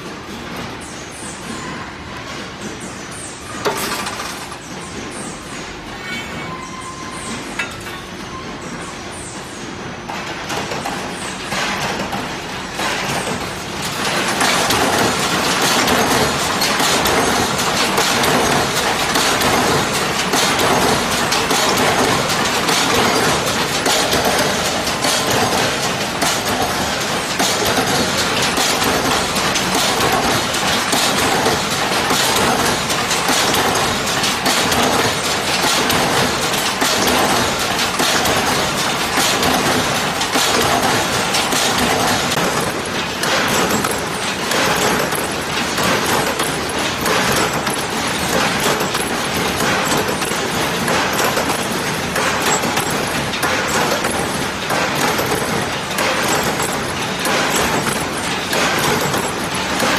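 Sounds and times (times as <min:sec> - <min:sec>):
machinery clattering: 0:00.0 - 0:59.9.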